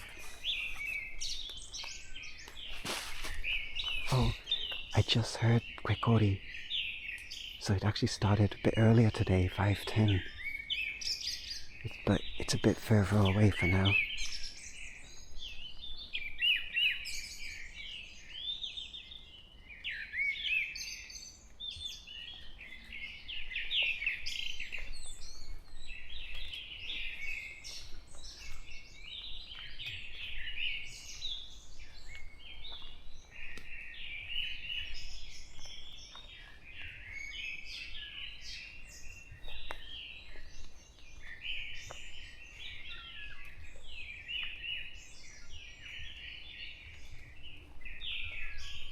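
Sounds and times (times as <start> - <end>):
songbirds singing and chirping: 0.0 - 48.9.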